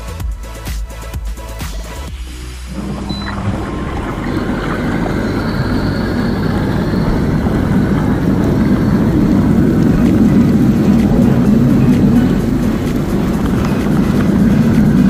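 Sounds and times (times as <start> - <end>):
blower hum: 2.1 - 15.0
water bubbling and churning: 2.6 - 15.0.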